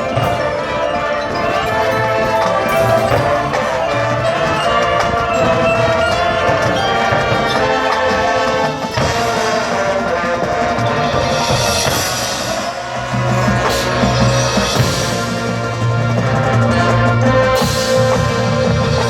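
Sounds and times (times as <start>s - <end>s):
brass chords: 0.0s - 19.0s
marching percussion: 0.0s - 19.0s.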